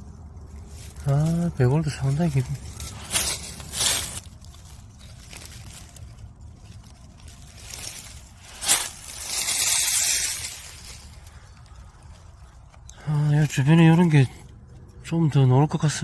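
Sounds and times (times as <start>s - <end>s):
rustling of dry leaves: 0.0s - 16.0s.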